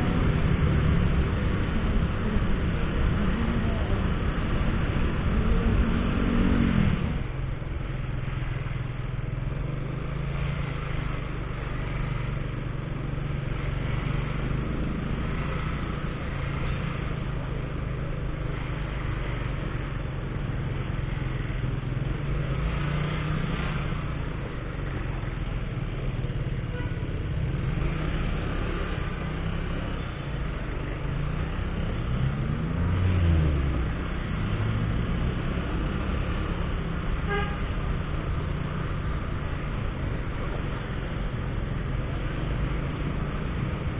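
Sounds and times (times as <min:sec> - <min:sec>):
traffic: 0:00.0 - 0:43.9.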